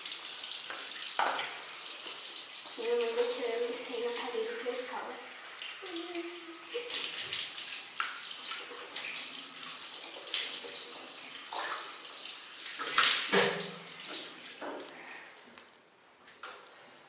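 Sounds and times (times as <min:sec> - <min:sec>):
water running from tap: 0:00.0 - 0:14.7.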